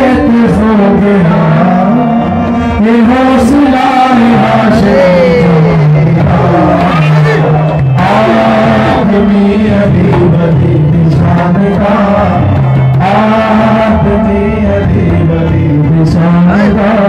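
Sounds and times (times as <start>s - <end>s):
dholak drum: 0.0s - 17.0s
men singing into microphones: 0.0s - 17.0s
tabla: 0.0s - 17.0s.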